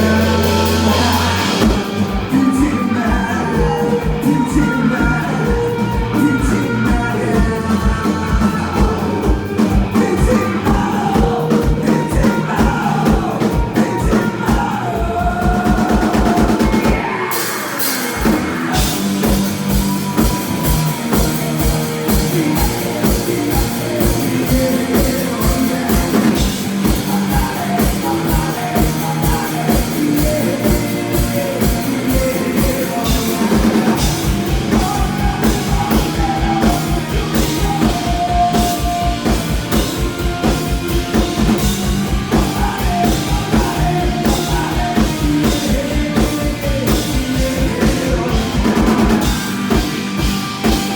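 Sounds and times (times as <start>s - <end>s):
rock band playing live: 0.0s - 50.9s.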